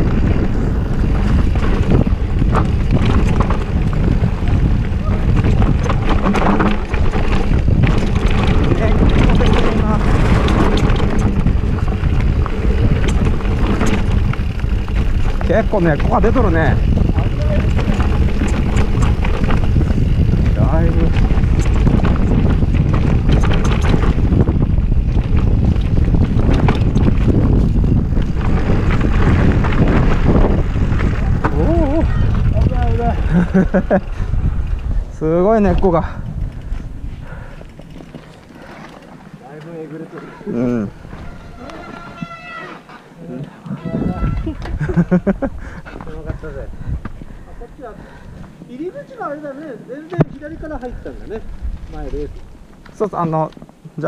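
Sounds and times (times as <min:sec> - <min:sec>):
bike clicks and knocks: 0:00.0 - 0:47.3
tyres rumbling over dirt trail: 0:00.0 - 0:54.0
wind buffeting microphone: 0:00.0 - 0:54.0.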